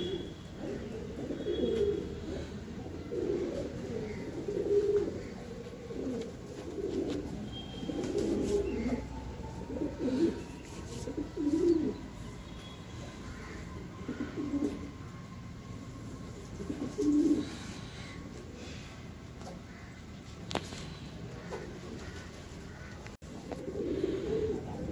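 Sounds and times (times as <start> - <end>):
pigeons cooing: 0.0 - 12.2, 13.1 - 15.2, 16.4 - 24.9.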